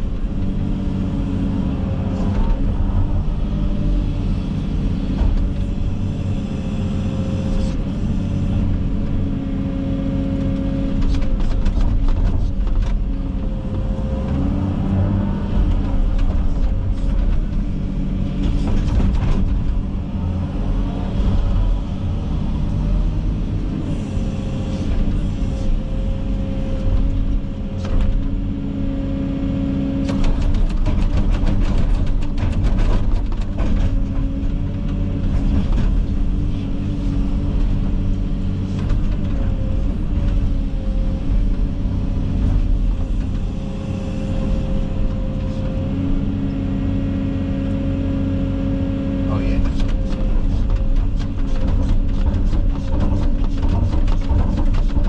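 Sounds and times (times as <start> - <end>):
excavator diesel engine whining: 0.0 - 55.0.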